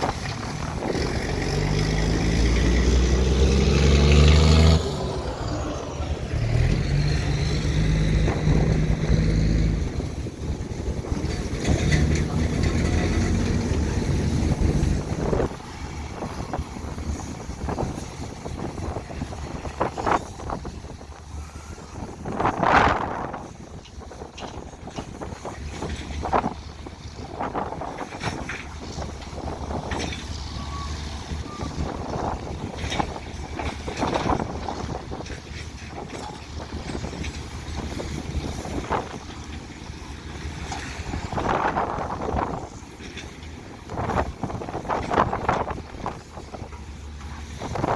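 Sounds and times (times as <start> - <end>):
excavator diesel engine drone: 0.0 - 47.9
wind buffeting microphone: 0.0 - 47.9.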